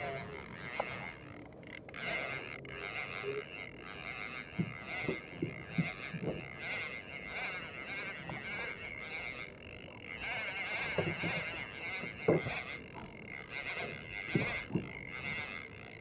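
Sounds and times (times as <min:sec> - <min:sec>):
low knocks of reel handle: 0:00.0 - 0:09.4, 0:10.2 - 0:16.0
fishing reel whirring: 0:00.0 - 0:16.0.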